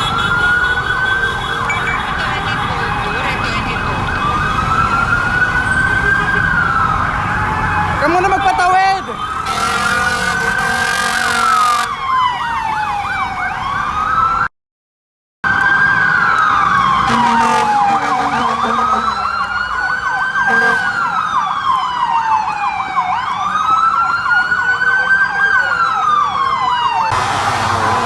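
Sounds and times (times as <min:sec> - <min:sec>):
engine and road noise: 0:00.0 - 0:14.5, 0:15.4 - 0:28.0
siren wail: 0:00.0 - 0:14.5, 0:15.4 - 0:28.0
siren yelp warbling: 0:00.9 - 0:14.4, 0:15.5 - 0:28.0.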